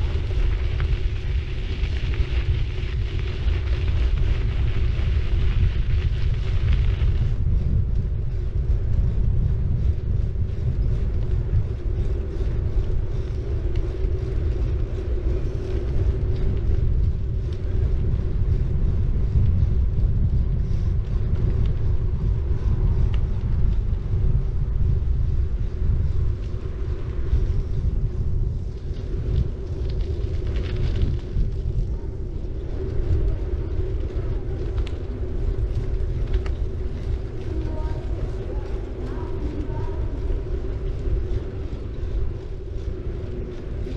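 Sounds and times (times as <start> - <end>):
bicycle tyres rolling: 0.0 - 43.9
wind rumble on microphone: 0.0 - 43.9.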